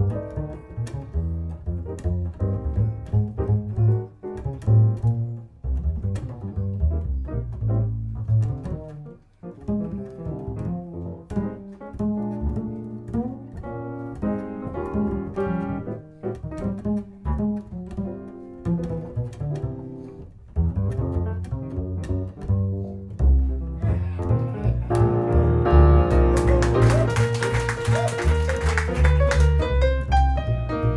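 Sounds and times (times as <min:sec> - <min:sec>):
double bass plucked: 0:00.0 - 0:30.9.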